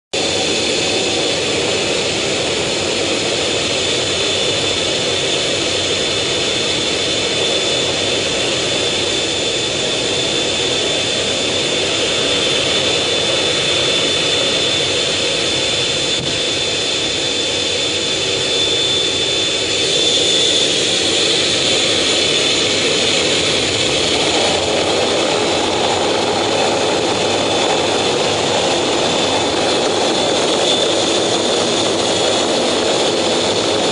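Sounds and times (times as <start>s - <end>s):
jet engines whining: 0.1s - 33.9s.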